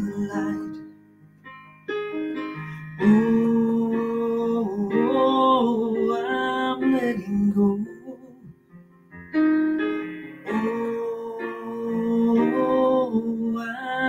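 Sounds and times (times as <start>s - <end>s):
instrumental accompaniment: 0.0s - 7.0s, 8.5s - 13.3s.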